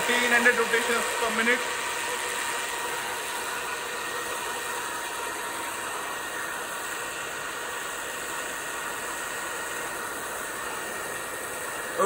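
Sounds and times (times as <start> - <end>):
milling machine spindle whirring: 0.0 - 12.0.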